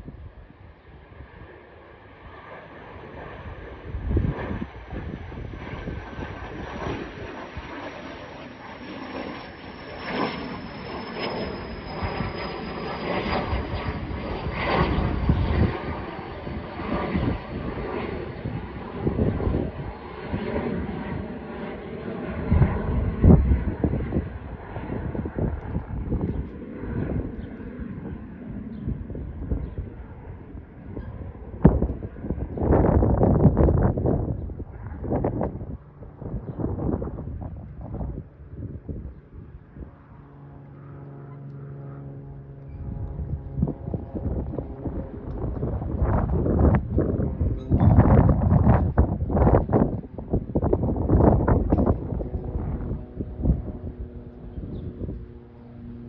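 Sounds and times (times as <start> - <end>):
wind buffeting microphone: 0.0 - 8.1, 10.1 - 40.5, 42.0 - 56.0
airplane engine rumble: 0.0 - 56.0.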